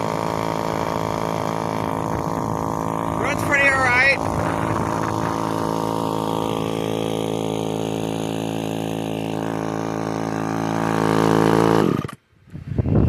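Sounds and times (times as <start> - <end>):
two-stroke chainsaw engine running: 0.0 - 12.4.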